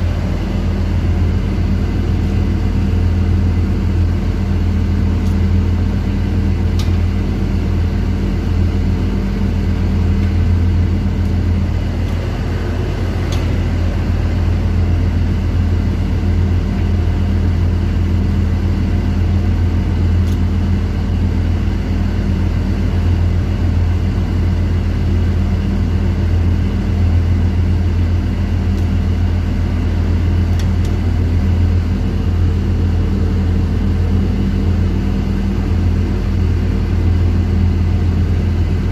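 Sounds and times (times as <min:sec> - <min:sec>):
machinery drone: 0:00.0 - 0:38.9.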